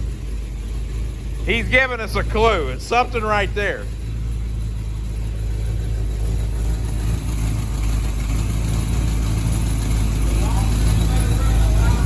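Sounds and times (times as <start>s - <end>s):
truck engine idling with rattle: 0.0s - 12.0s.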